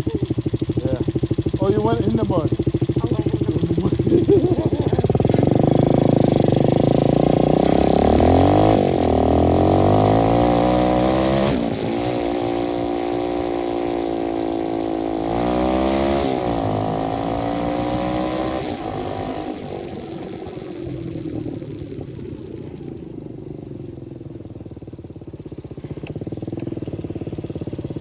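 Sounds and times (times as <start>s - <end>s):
dirt bike engine revving: 0.0s - 23.2s.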